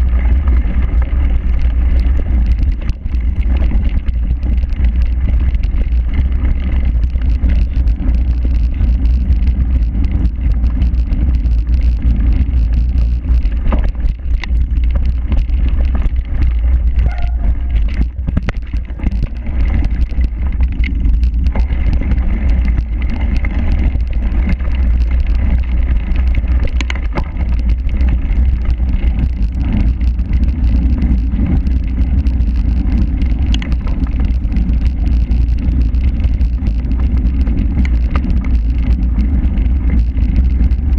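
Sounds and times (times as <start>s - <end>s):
bike rattles and knocks: 0.0s - 40.9s
wind buffeting camera: 0.0s - 40.9s.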